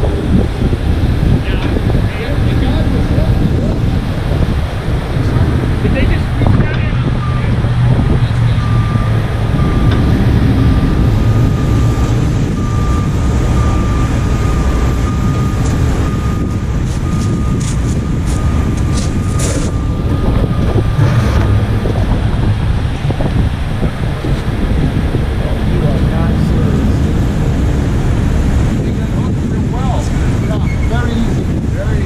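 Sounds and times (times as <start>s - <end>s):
diesel engines under load: 0.0s - 32.0s.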